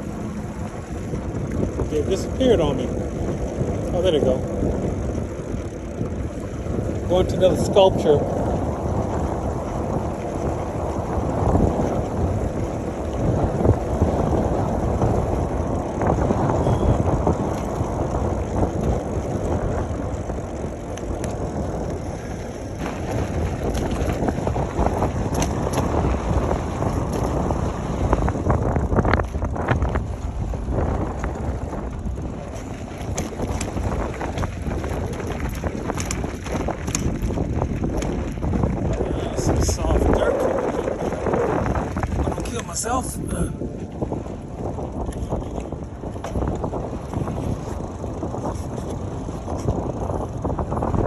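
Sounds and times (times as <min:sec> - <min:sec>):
wind buffeting microphone: 0:00.0 - 0:51.0
bicycle clicks and rattles: 0:00.1 - 0:42.9, 0:43.8 - 0:51.0.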